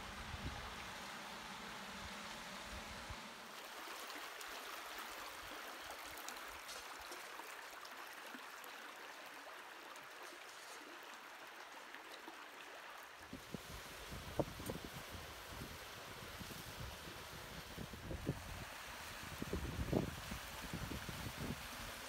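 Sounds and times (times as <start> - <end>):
creek water running over rock: 0.0 - 22.0.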